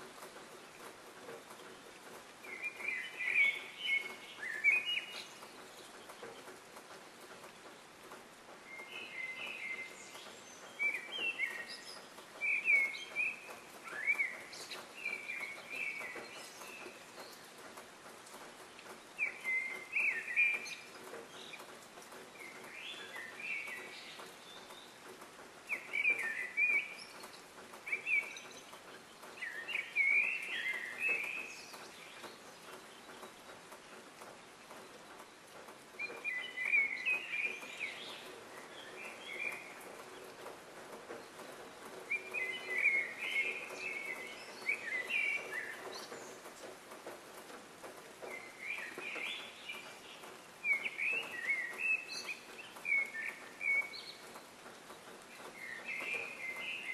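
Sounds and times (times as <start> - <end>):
faint outdoor hiss: 0.0 - 56.9
small birds chirping: 0.0 - 56.9.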